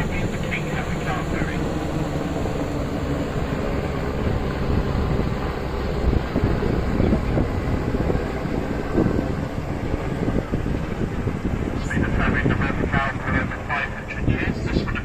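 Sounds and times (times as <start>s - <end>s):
boat engine rumble: 0.0s - 15.0s
wind buffeting microphone: 0.0s - 15.0s.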